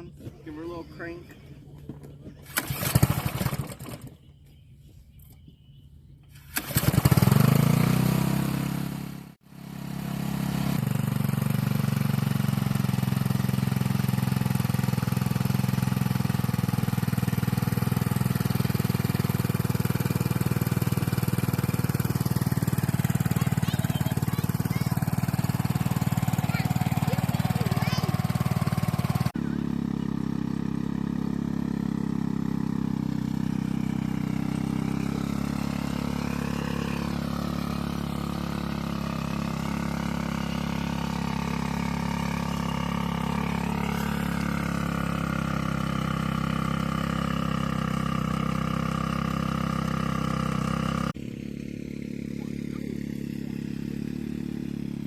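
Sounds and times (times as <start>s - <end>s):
rototiller engine running: 0.0s - 4.3s, 6.3s - 55.0s.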